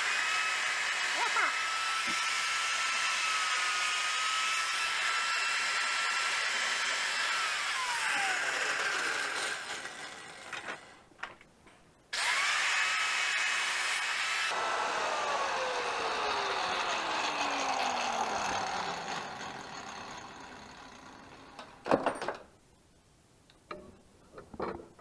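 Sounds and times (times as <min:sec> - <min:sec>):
electric power saw whining: 0:00.0 - 0:11.0, 0:12.2 - 0:21.8.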